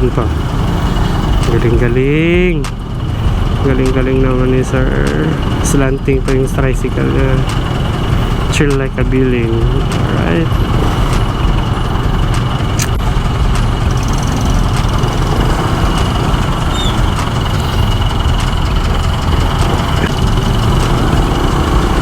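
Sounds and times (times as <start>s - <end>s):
motorcycle engine rumble: 0.0s - 22.0s
road noise: 0.0s - 22.0s.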